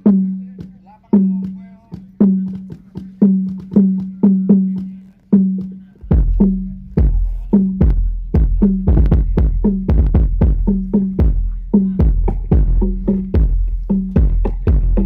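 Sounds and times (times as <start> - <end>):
deep bass drum: 0.0 - 15.0
hand drum strikes: 0.0 - 15.0.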